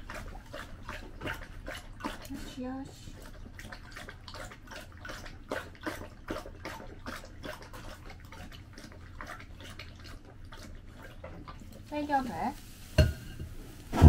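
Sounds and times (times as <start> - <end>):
dog lapping water: 0.0 - 12.0.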